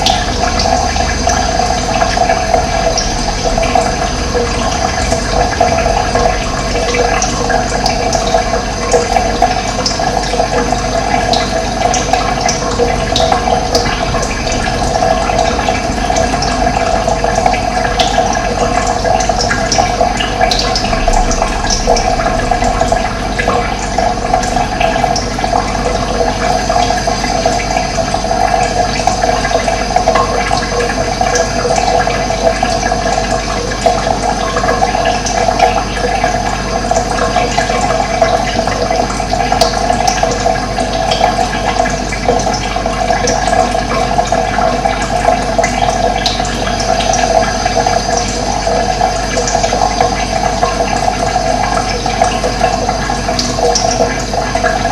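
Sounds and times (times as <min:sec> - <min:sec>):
running water: 0:00.0 - 0:54.9.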